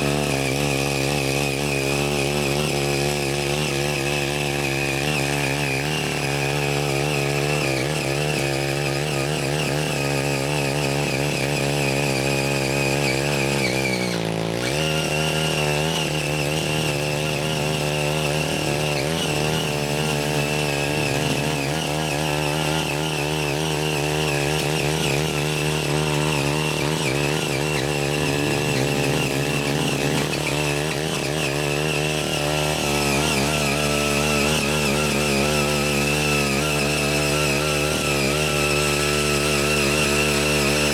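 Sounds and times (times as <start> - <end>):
small tiller engine running hard: 0.0 - 40.9
tines churning soil: 0.0 - 40.9.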